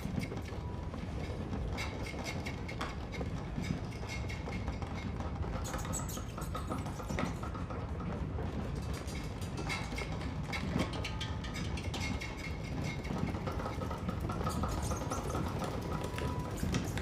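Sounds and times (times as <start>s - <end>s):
train carriage rumbling: 0.0s - 5.7s, 7.6s - 17.0s.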